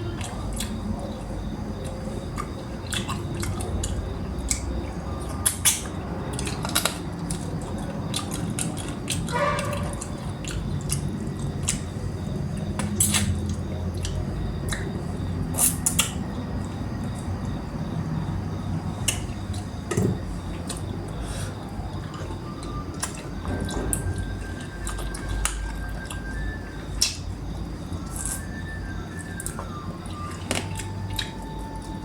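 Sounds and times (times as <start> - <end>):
steady low hum: 0.0 - 32.0
wet chewing and smacking: 0.1 - 17.6, 18.4 - 19.9, 20.5 - 32.0.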